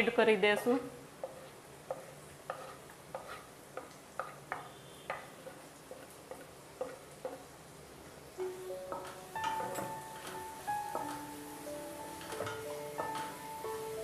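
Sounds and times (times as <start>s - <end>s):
onion sizzling: 0.0s - 14.0s.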